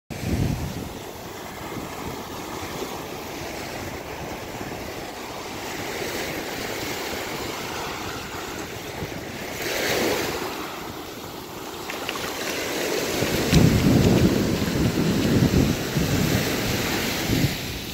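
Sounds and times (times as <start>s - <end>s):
waves breaking on shore: 0.1s - 17.9s.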